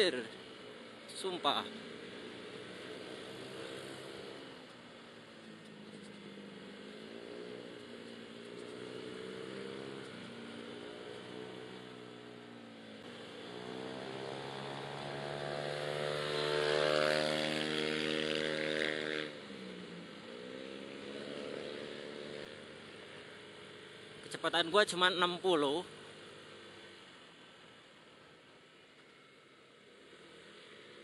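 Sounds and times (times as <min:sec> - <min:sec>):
scooter engine revving: 0:00.0 - 0:26.8.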